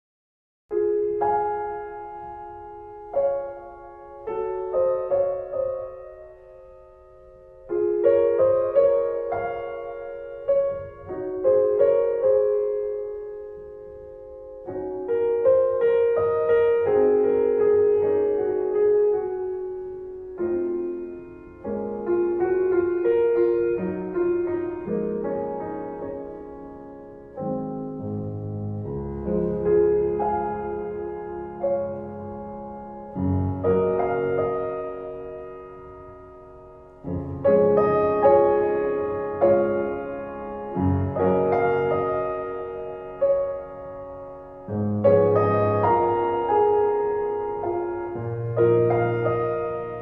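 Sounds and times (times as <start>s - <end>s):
slow piano chords: 0.7s - 50.0s.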